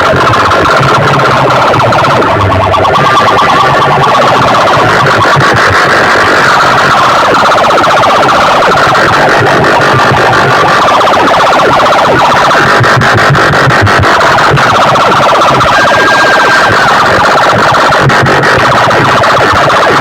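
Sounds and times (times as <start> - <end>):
distorted siren-like electronic tone: 0.0 - 20.0.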